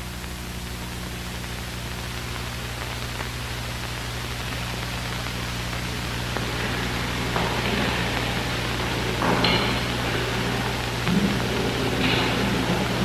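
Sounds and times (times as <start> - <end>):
low electrical hum: 0.0 - 13.0
steady hiss: 0.0 - 13.0.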